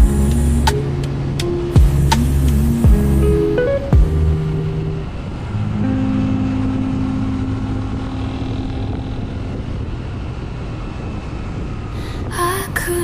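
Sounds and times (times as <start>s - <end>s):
motorcycle engine running: 0.0s - 11.1s
road and wind noise: 0.0s - 13.0s.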